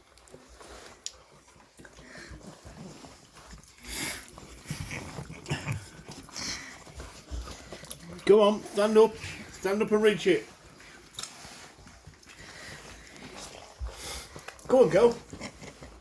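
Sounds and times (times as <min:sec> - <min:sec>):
puppies licking and lapping: 0:00.0 - 0:16.0.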